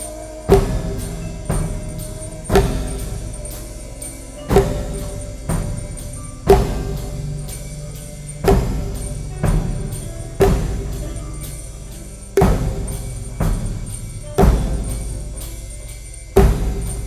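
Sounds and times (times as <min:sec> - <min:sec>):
struck percussion ringing: 0:00.0 - 0:17.0.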